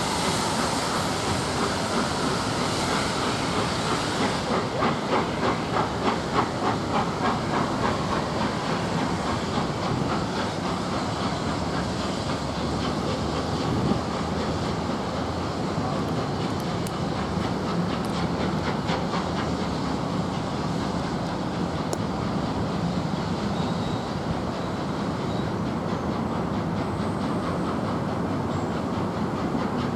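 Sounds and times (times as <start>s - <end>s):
steam locomotive chuffing beats: 0.0s - 29.9s
train rumble and hiss: 0.0s - 29.9s.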